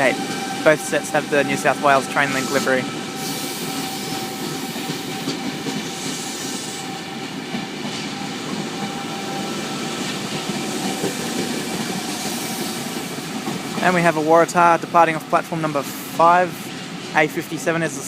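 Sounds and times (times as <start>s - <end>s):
train wheels running on rails: 0.0s - 18.0s.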